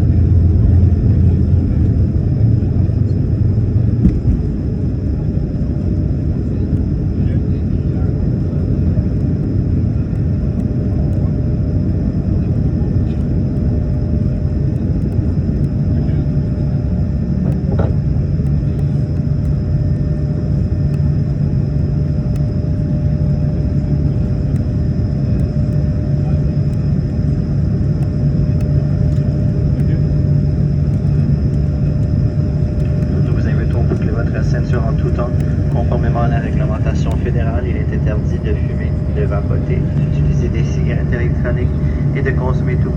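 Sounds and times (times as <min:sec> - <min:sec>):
jet engines rumbling inside cabin: 0:00.0 - 0:42.9
low hum: 0:00.0 - 0:42.9.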